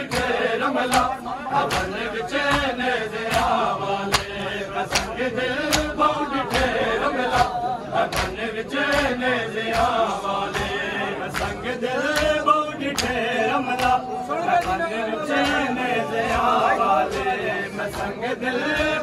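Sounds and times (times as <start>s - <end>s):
crowd beating chests: 0.0s - 19.0s
men chanting a lament: 0.0s - 19.0s.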